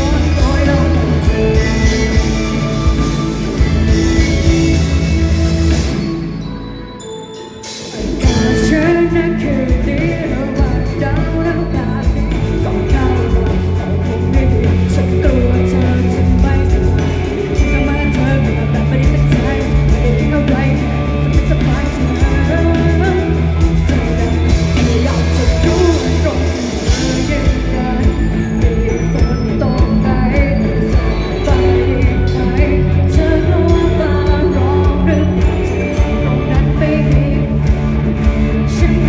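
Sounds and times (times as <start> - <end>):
person singing: 0.0 - 6.4, 7.0 - 39.0
live rock band playing: 0.0 - 6.8, 7.5 - 39.0.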